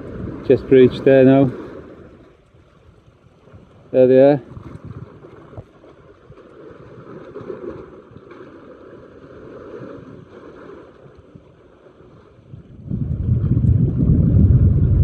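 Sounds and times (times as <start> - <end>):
choppy sea water: 0.0 - 15.0
wind: 0.0 - 15.0.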